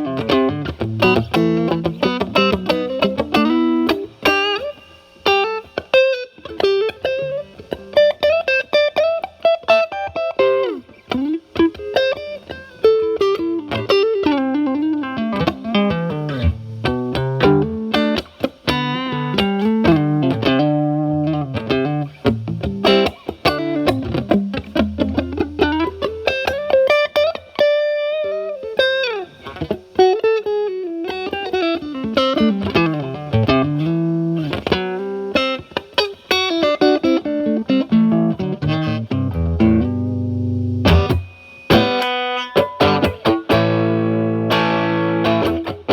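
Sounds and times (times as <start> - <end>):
overdriven electric guitar lead: 0.0 - 45.9.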